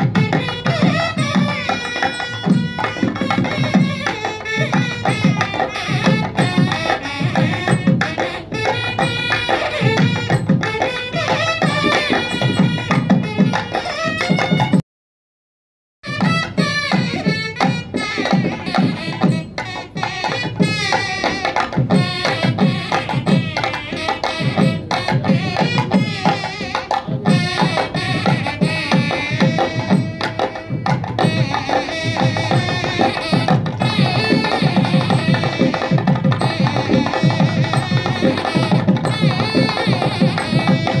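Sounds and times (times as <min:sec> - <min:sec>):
background music with percussive beat: 0:00.0 - 0:14.8, 0:16.0 - 0:41.0.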